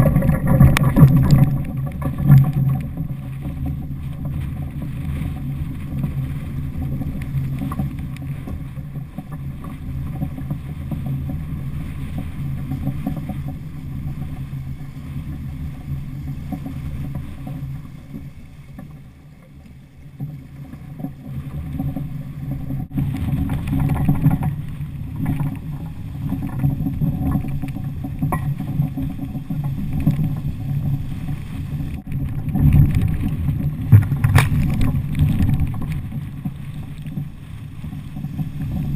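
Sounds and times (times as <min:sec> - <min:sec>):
wind buffeting camera: 0:00.0 - 0:19.0, 0:20.1 - 0:38.9
water rushing along hull: 0:00.0 - 0:38.9.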